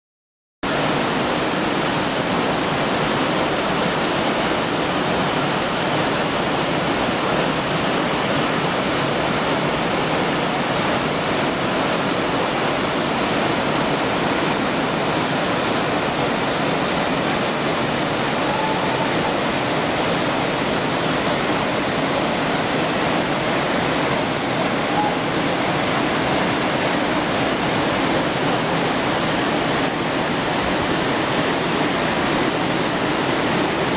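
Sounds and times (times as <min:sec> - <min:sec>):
waterfall rushing: 0:00.7 - 0:33.9.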